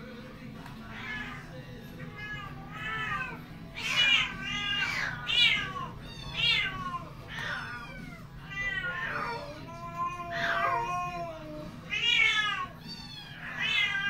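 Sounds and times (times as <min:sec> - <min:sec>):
kittens meowing: 0:00.8 - 0:14.0.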